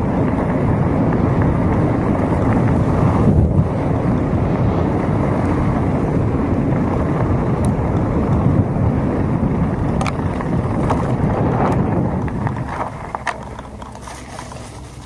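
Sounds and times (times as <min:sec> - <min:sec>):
bike tyres rolling on gravel: 0:00.0 - 0:15.0
wind buffeting microphone: 0:00.0 - 0:15.0.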